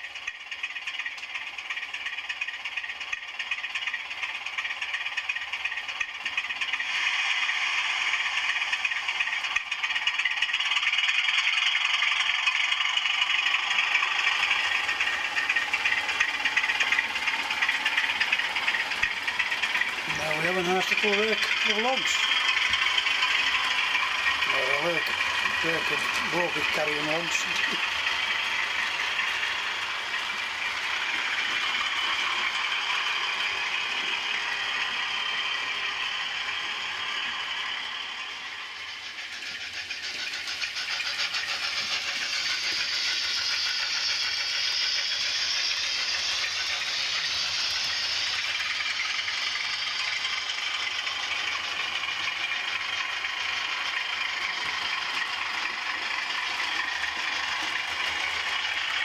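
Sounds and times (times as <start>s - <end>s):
model train wheels rattling: 0.0s - 59.0s.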